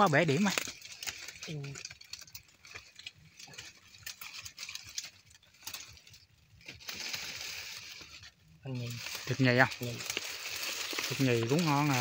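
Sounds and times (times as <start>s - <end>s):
dry grass and leaves rustling: 0.0s - 12.0s.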